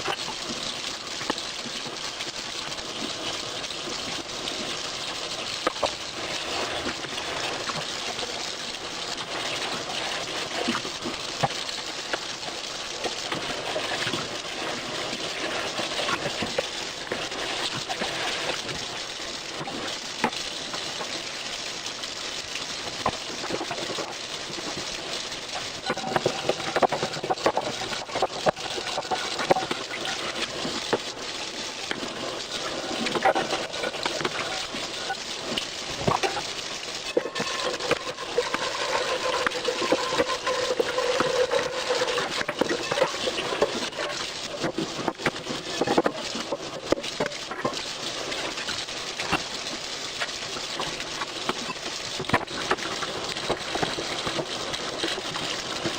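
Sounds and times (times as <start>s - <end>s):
tap water running: 0.0s - 55.9s.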